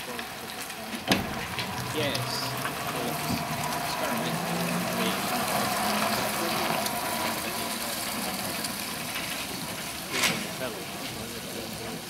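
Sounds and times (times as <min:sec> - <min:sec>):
trolleybus moving off: 0:00.0 - 0:12.0.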